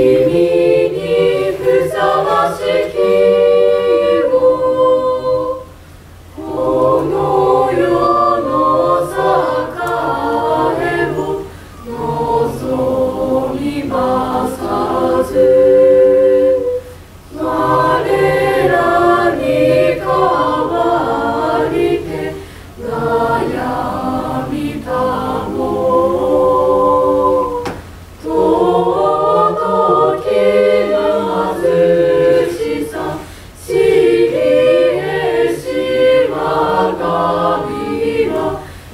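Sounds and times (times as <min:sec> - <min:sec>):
choir singing unaccompanied: 0:00.0 - 0:38.9.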